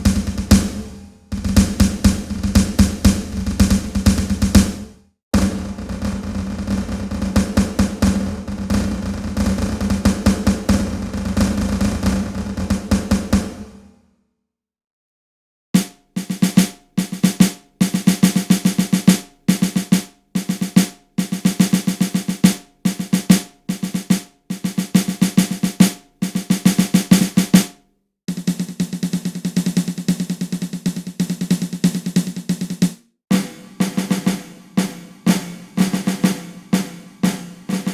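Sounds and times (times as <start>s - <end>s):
snare drum roll: 0.0s - 14.0s, 15.8s - 37.9s.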